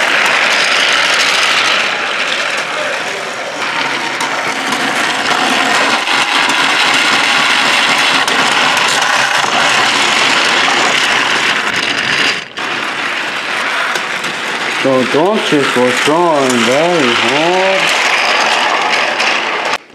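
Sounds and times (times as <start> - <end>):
toy train motor and gears: 0.0 - 19.9.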